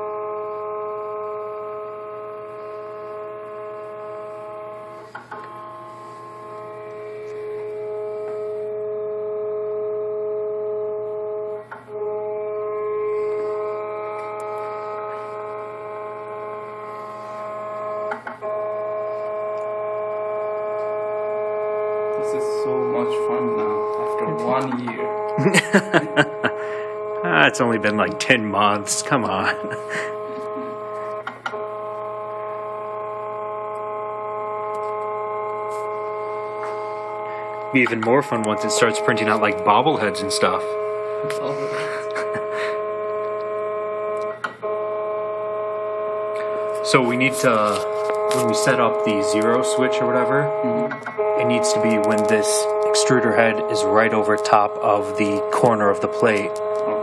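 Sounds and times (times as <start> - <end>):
stepper motors whining: 0.0 - 57.0.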